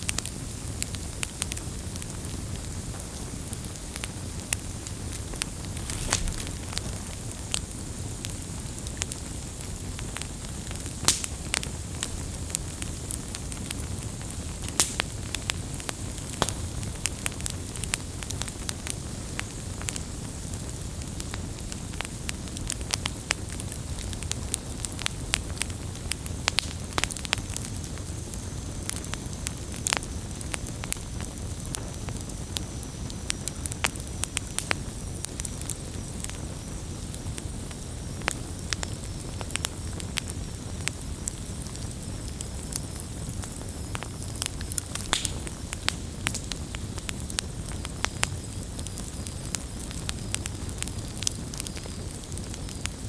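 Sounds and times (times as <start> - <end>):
burning wood crackling: 0.0 - 53.0
campfire flames rumbling: 0.0 - 53.0.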